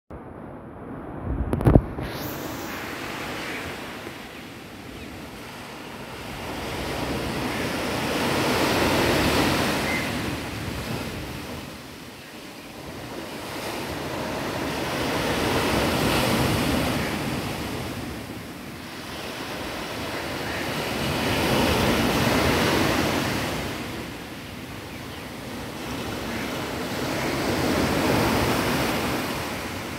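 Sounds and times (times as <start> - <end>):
surf breaking on shore: 0.9 - 24.6, 25.5 - 29.9.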